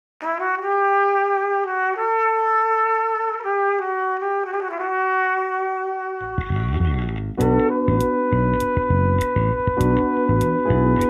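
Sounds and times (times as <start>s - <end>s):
solo brass melody: 0.2s - 11.0s.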